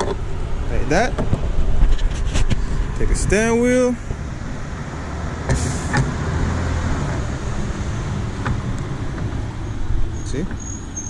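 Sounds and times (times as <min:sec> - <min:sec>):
steady low rumble: 0:00.1 - 0:10.2.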